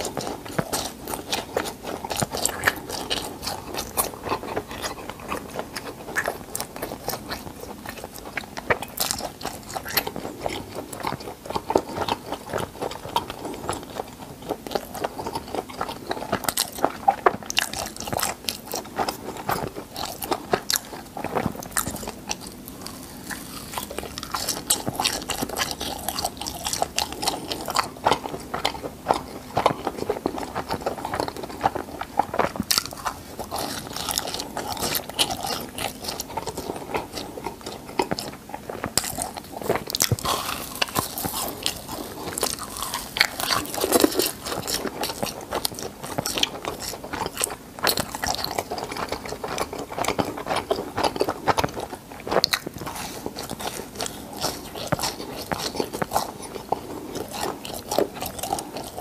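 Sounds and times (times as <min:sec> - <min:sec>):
chewing crunchy snack: 0:00.0 - 0:59.0.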